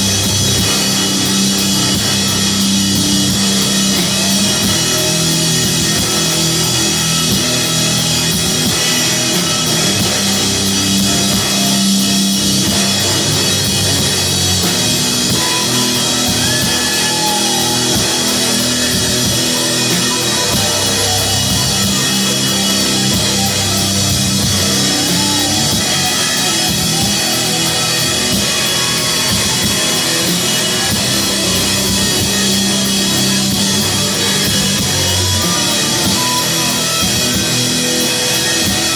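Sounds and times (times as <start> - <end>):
heavy rock band playing: 0.0 - 38.9.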